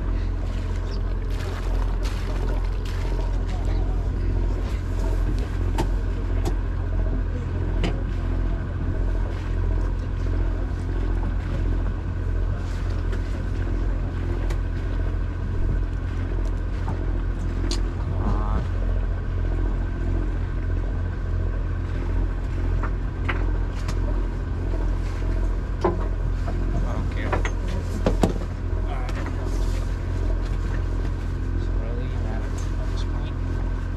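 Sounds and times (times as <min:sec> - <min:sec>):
boat engine rumble: 0:00.0 - 0:33.9
faint constant whine: 0:00.0 - 0:33.9.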